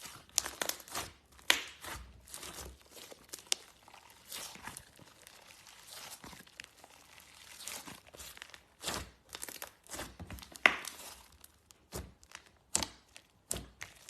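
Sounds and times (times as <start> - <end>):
slime crackling and popping: 0.0 - 14.0.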